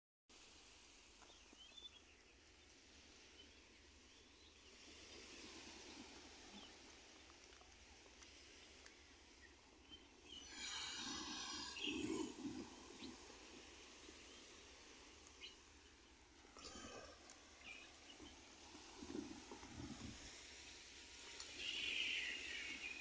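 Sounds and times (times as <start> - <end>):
faint outdoor ambience: 0.3 - 23.0.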